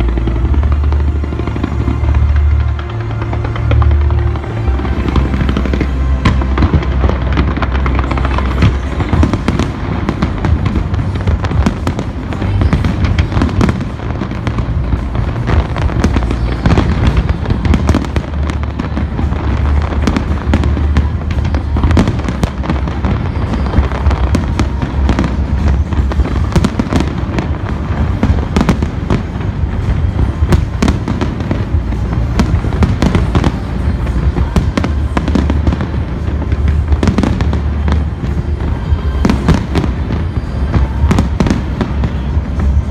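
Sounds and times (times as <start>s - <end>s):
fireworks bursting and crackling: 0.0s - 42.9s
music playing: 0.0s - 42.9s.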